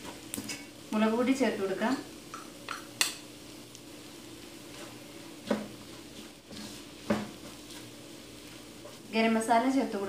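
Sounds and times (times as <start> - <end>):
onions sizzling in a pan: 0.0 - 10.0.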